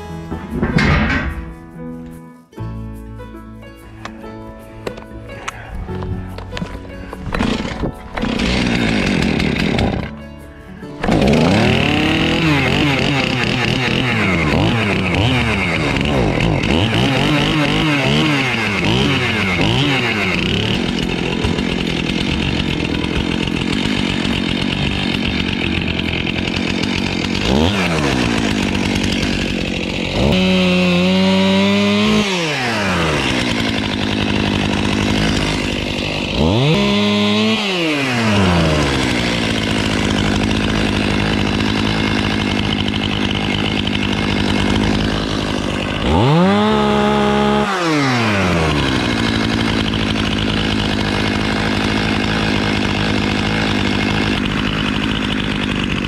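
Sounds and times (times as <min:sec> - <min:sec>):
chainsaw idling and revving: 0:07.3 - 0:10.2, 0:11.0 - 0:56.0.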